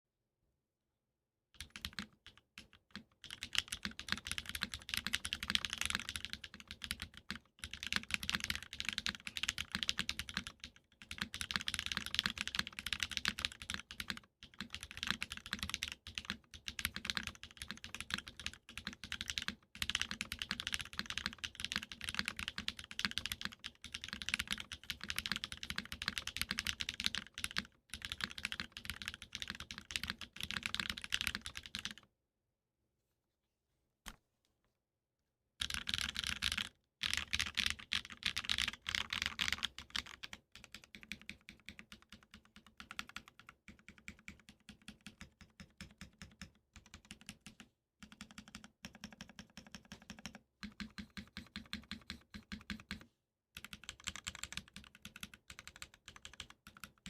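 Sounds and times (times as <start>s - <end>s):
mechanical keyboard typing: 1.6s - 32.0s, 35.6s - 57.0s.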